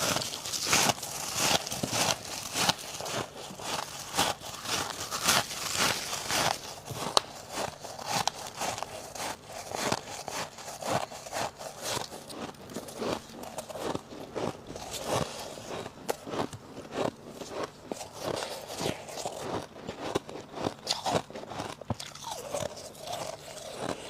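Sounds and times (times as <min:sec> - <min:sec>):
freezer frost crunching: 0:00.0 - 0:24.0.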